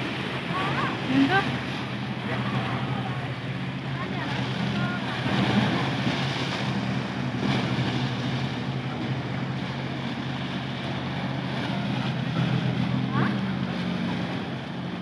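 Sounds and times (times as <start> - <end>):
motorboat engine droning: 0.0 - 15.0
rushing water: 0.0 - 15.0.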